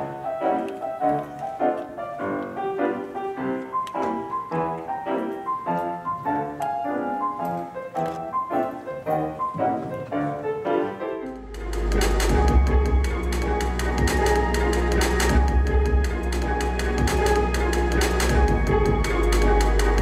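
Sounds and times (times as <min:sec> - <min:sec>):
grand piano chords: 0:00.0 - 0:20.0.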